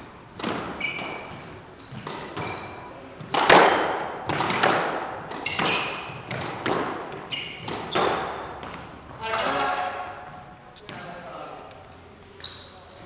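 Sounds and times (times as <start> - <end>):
squash ball hitting rackets and walls: 0.0 - 11.9
shoes squeaking on wooden floor: 0.4 - 3.4, 4.3 - 11.6, 12.3 - 13.0.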